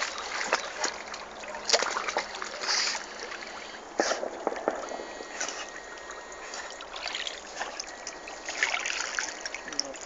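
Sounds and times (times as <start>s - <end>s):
water sloshing and trickling: 0.0s - 10.0s.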